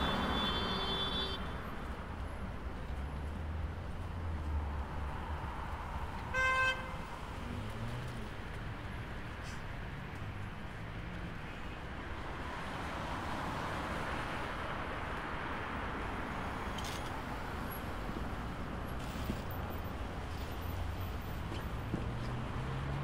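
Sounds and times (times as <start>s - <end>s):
road traffic: 0.0s - 23.0s.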